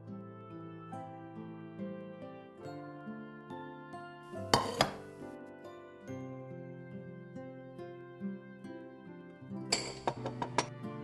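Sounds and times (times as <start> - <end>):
gentle plucked instrumental music: 0.0 - 11.0.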